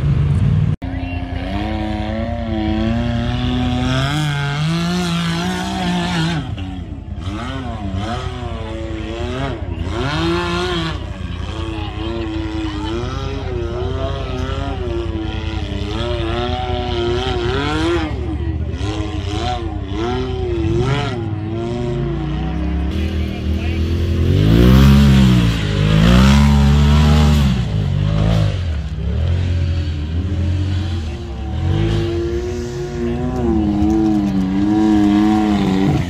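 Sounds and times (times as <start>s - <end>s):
utility vehicle engine revving: 0.0s - 36.0s.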